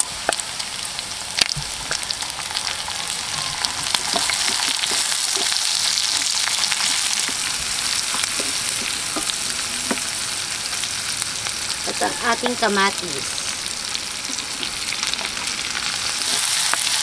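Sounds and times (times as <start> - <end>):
garlic and onion sizzling in oil: 0.0 - 17.0.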